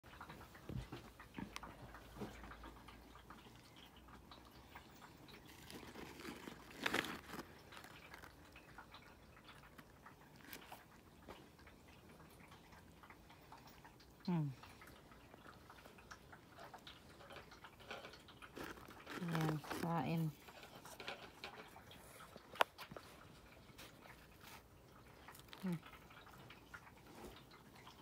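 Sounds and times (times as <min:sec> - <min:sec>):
crunching and chewing cookies: 0:00.1 - 0:28.0.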